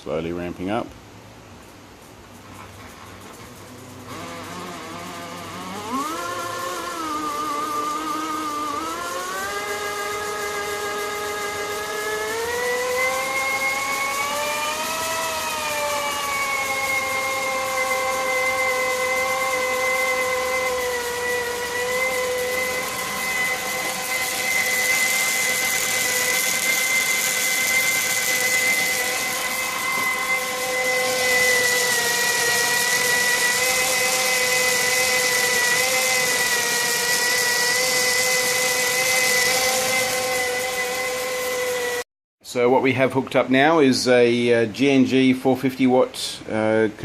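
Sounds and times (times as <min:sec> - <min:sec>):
electric motor whine: 0:02.8 - 0:42.1.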